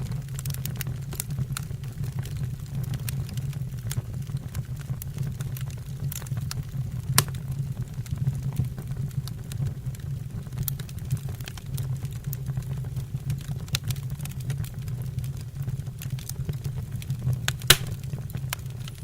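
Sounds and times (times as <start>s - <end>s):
burning logs crackling and popping: 0.0s - 19.0s
low rumble of flames: 0.0s - 19.0s.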